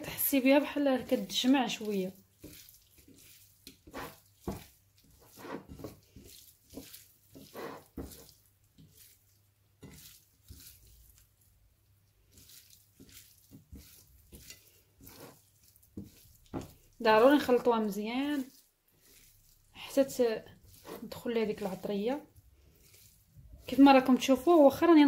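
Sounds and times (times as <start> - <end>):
wet squishing of raw liver: 0.0 - 25.0.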